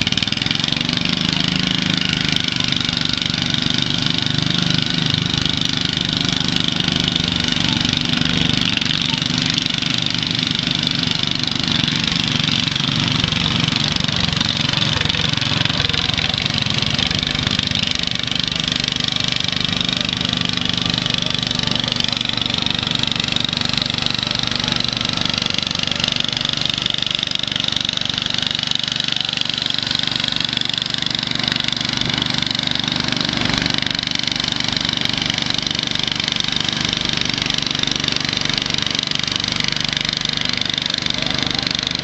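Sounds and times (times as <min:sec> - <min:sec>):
lawn mower engine running: 0:00.0 - 0:42.0.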